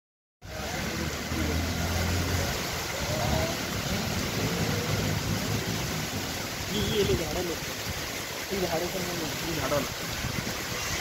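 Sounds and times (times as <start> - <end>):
heavy rain in strong wind: 0.4 - 11.0.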